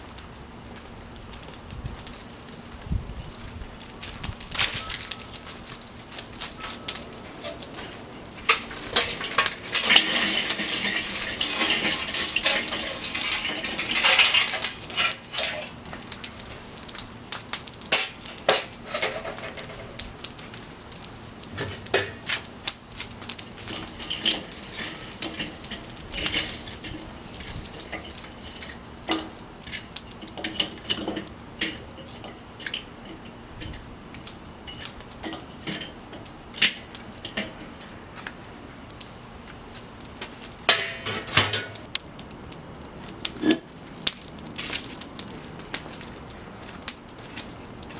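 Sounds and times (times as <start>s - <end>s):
coals clinking on metal: 0.0s - 47.9s
charcoal clattering into grill: 4.0s - 38.4s, 40.2s - 42.0s, 43.2s - 47.9s.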